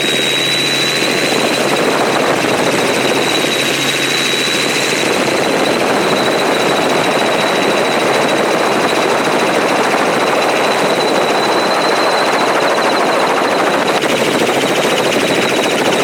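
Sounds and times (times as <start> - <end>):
helicopter rotor chopping: 0.0 - 16.0
high-pitched whine: 0.0 - 16.0.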